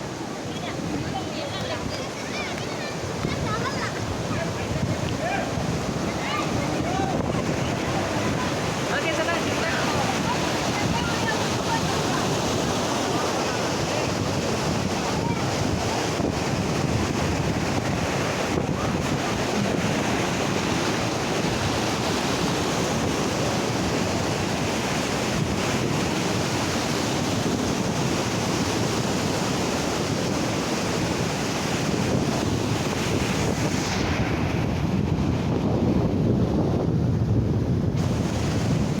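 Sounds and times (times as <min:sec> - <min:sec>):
flowing water rushing: 0:00.0 - 0:39.0
wind buffeting microphone: 0:00.0 - 0:39.0.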